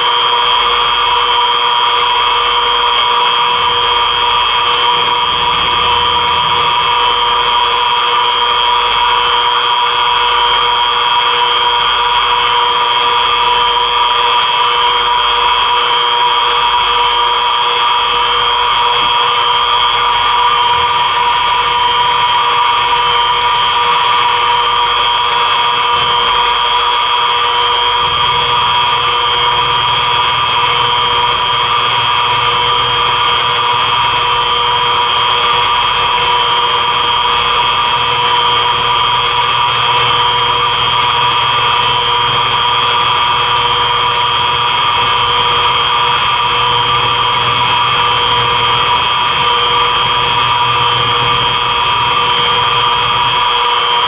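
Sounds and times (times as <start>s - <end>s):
milling machine whining: 0.0s - 54.0s.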